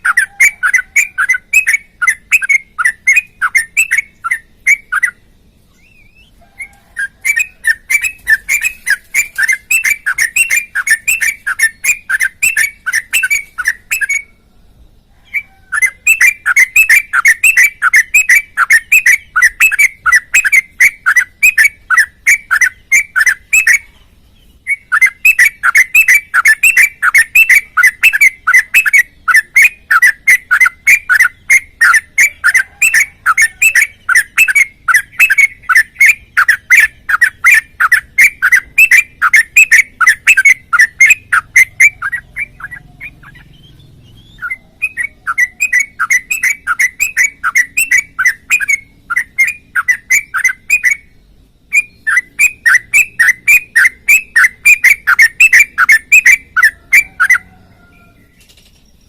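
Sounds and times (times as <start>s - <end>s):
bird singing whistled notes: 0.0s - 59.0s.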